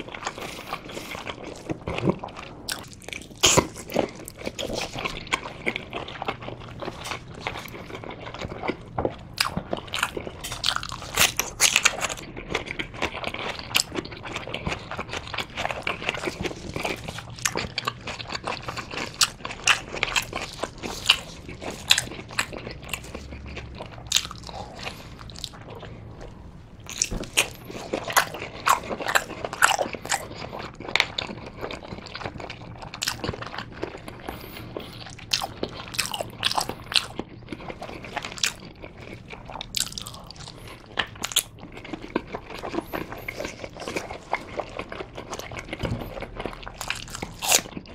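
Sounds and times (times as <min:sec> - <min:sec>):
person chewing wetly: 0:00.0 - 0:47.9.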